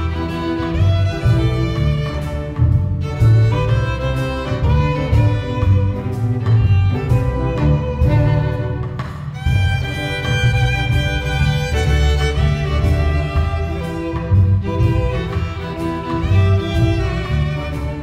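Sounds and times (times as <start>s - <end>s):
bowed violins holding long notes: 0.0s - 18.0s
chamber ensemble playing: 0.0s - 18.0s
pulsing low bass line: 0.0s - 18.0s.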